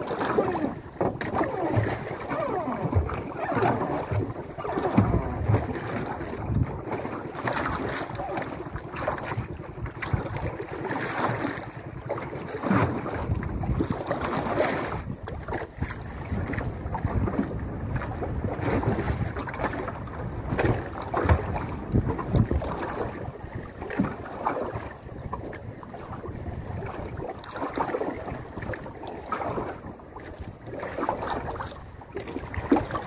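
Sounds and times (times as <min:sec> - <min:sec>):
water lapping against boat hull: 0:00.0 - 0:33.0
wind buffeting microphone: 0:00.0 - 0:33.0.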